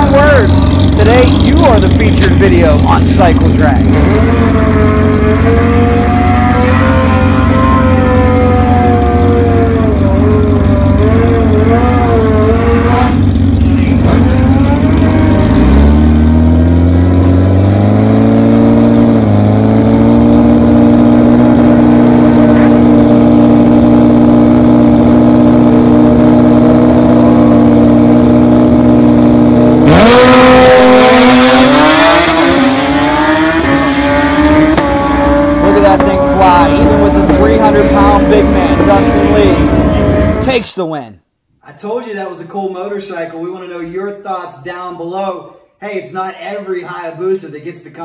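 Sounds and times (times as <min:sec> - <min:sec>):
motorcycle engine revving: 0:00.0 - 0:40.4.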